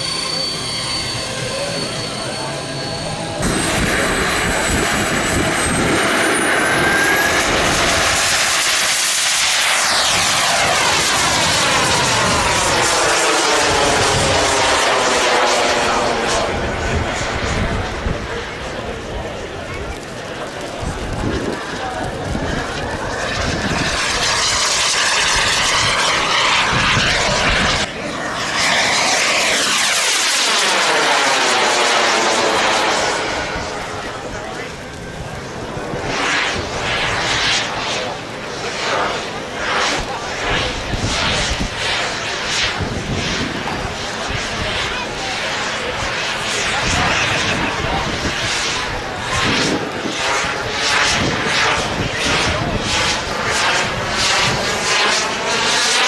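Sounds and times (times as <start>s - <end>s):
model airplane engine flying past: 0.0s - 56.0s.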